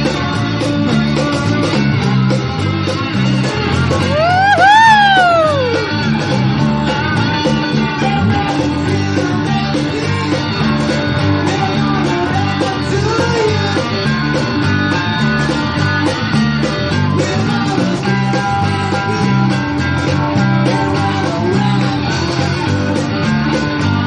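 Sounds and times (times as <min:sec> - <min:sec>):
drums: 0:00.0 - 0:24.0
electric guitar: 0:00.0 - 0:24.0
repeating bass line: 0:00.0 - 0:24.0.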